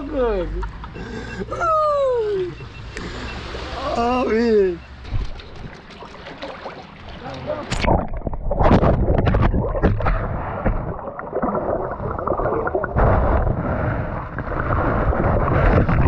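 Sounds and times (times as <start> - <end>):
underwater sloshing and bubbling: 2.5 - 16.0.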